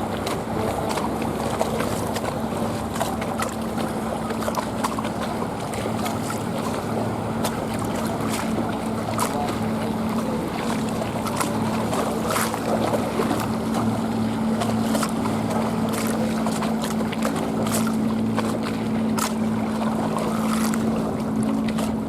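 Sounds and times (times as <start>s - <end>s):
motorboat engine running: 0.0s - 22.0s
water lapping and splashing: 0.0s - 22.0s.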